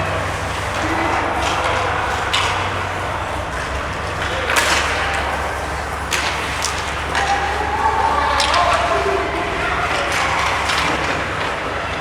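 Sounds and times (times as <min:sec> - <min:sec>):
crowd and arena noise: 0:00.0 - 0:12.0
skates and sticks scraping ice: 0:00.0 - 0:12.0.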